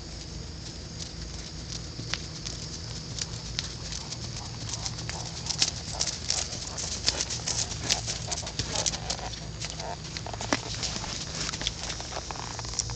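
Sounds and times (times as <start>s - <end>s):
horse hooves on grass and dirt: 0.0s - 12.9s
steady low hum: 0.0s - 12.9s.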